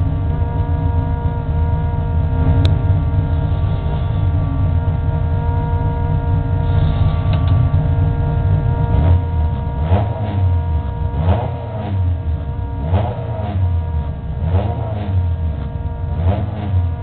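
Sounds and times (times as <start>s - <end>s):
race car engine idling: 0.0s - 17.0s
whining tones: 0.0s - 17.0s.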